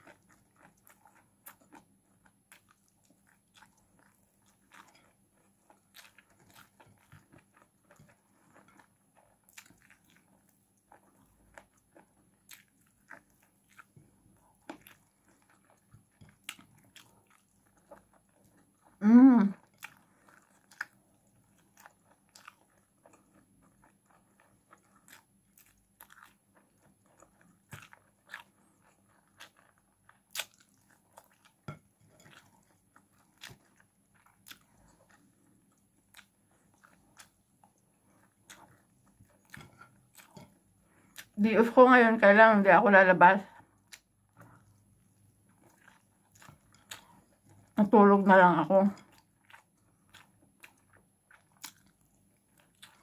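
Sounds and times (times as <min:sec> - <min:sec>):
person chewing and biting food: 0:00.0 - 0:41.4, 0:43.6 - 0:47.8, 0:49.0 - 0:53.0.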